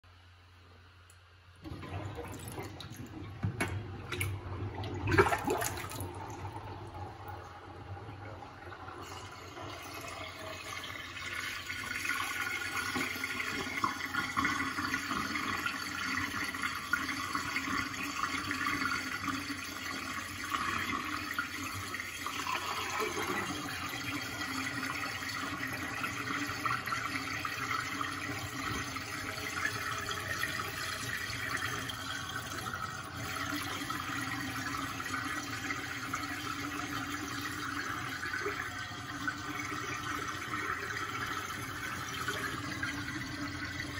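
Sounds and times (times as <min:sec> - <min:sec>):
water draining down sink: 0:01.6 - 0:43.9.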